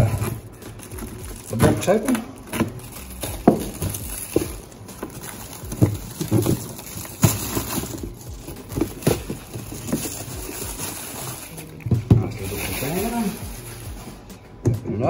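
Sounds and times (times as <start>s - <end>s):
plastic wrapping rustling: 0.0s - 14.5s.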